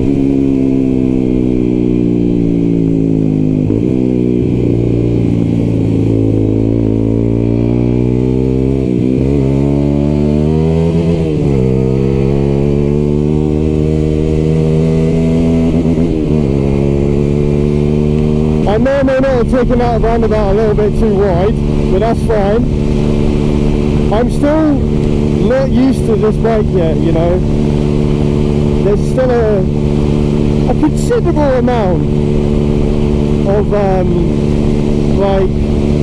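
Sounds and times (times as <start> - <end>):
motorcycle engine while riding: 0.0 - 36.0.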